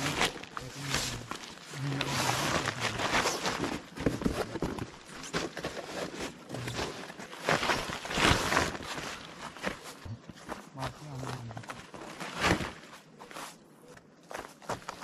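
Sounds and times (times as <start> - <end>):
foam mat and tent fabric rustling: 0.0 - 15.0.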